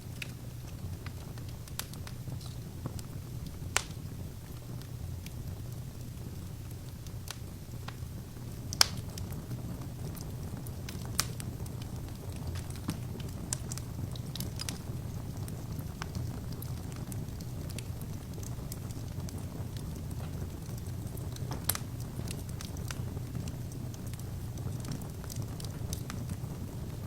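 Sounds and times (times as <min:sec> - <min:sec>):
fire flames rumbling: 0:00.0 - 0:27.0
logs crackling and popping: 0:00.0 - 0:27.0.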